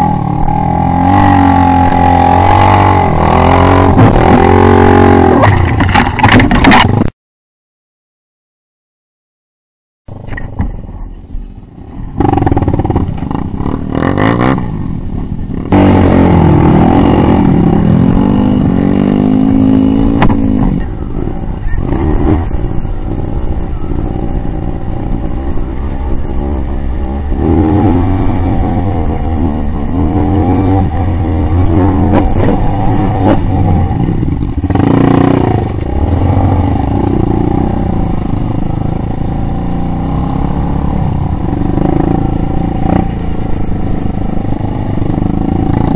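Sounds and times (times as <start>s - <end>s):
dirt bike engine revving: 0.0s - 6.8s, 12.2s - 45.9s.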